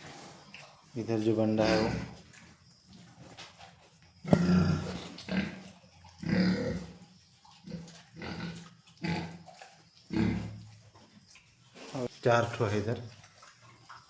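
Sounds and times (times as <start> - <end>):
pigs grunting: 0.0 - 3.4, 4.2 - 14.0.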